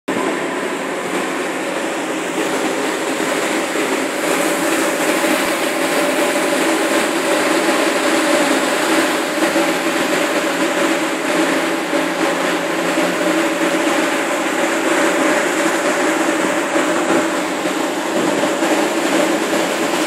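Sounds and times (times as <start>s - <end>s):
machinery hum: 0.1s - 20.0s
sea water rushing: 0.1s - 20.0s.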